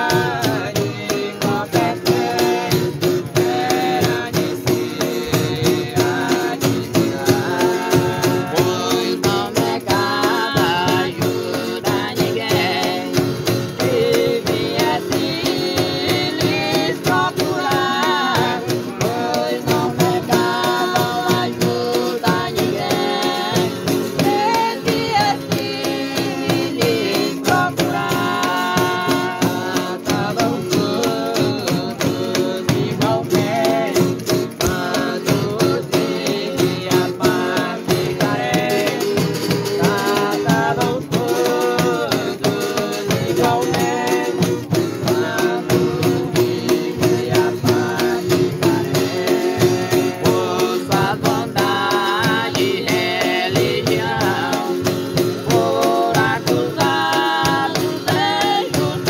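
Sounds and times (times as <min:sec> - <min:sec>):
strummed acoustic guitars: 0:00.0 - 0:59.0
tambourine beat: 0:00.0 - 0:59.0.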